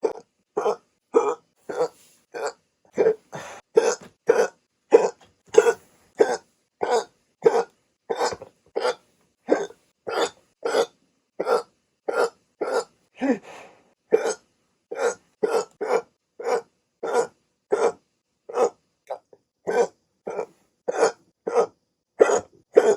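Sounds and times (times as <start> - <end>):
person hiccuping: 0.0 - 13.4, 14.1 - 15.7, 19.1 - 22.9.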